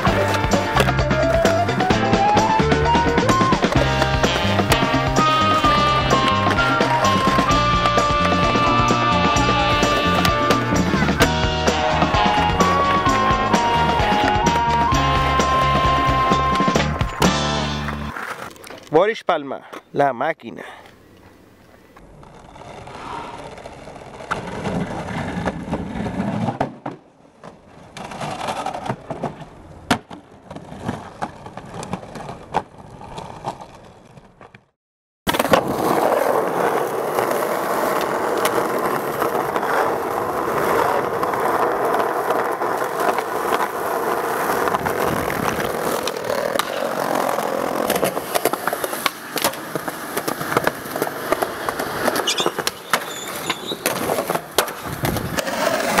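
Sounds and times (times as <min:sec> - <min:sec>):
skateboard wheels rolling: 0:00.0 - 0:19.0, 0:20.8 - 0:56.0.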